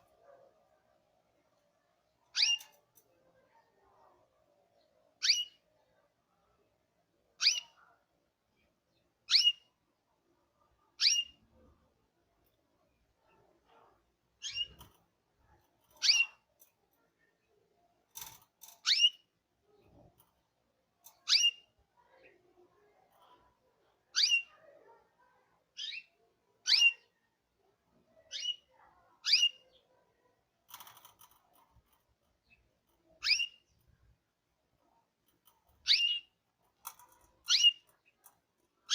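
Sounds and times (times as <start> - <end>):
canary chirping: 0.0 - 6.2, 7.3 - 38.9.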